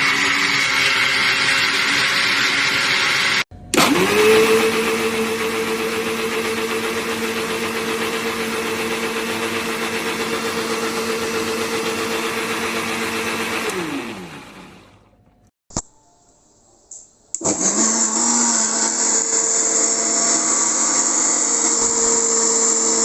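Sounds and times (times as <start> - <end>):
mixer grinder motor whining: 0.0 - 15.4, 17.4 - 23.0.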